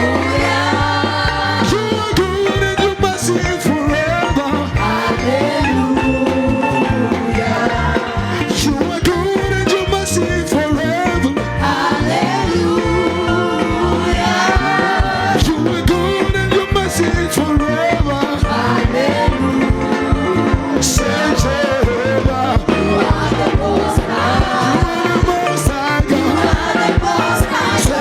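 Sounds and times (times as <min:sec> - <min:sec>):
band playing dance beat: 0:00.0 - 0:28.0
voices singing: 0:00.0 - 0:28.0.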